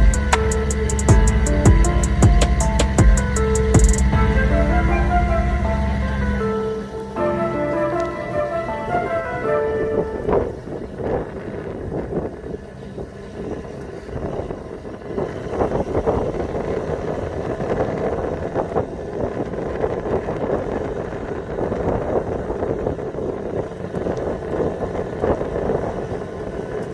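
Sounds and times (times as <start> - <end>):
vehicle engine and road noise: 0.0 - 26.9
wind buffeting microphone: 0.0 - 26.9.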